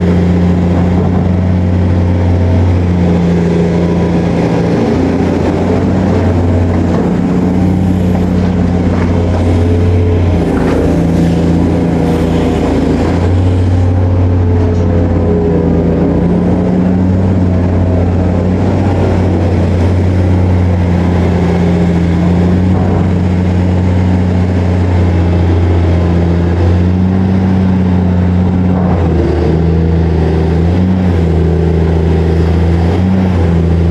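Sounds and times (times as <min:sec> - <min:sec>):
excavator diesel engine droning: 0:00.0 - 0:33.9.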